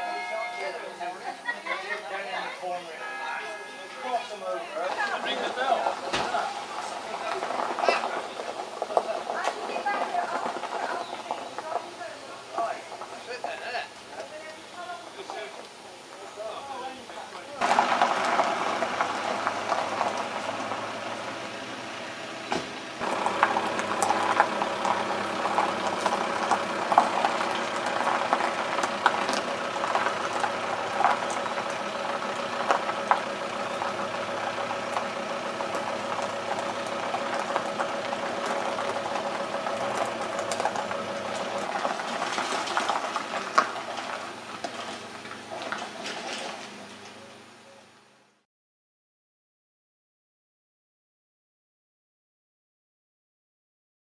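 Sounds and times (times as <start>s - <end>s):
car engines rattling: 3.1s - 15.5s, 17.0s - 48.2s.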